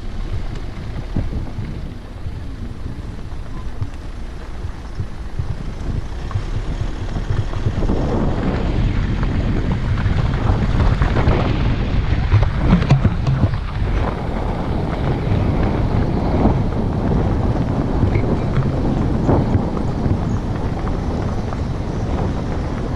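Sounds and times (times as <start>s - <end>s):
low rumble of travel: 0.0s - 22.9s
wind buffeting microphone: 0.0s - 22.9s.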